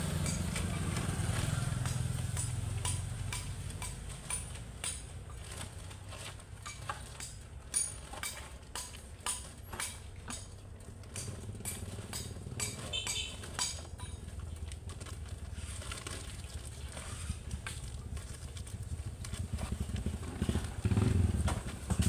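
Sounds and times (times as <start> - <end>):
gravel stones clinking and rattling: 0.0 - 22.0
low vehicle engine rumble: 0.0 - 22.0.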